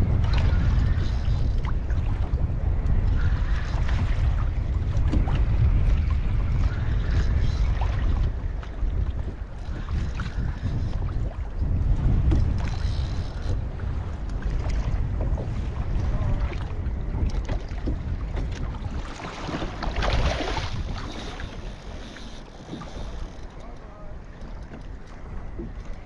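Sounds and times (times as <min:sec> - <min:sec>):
water noise: 0:00.0 - 0:26.0
wind buffeting microphone: 0:00.0 - 0:26.0.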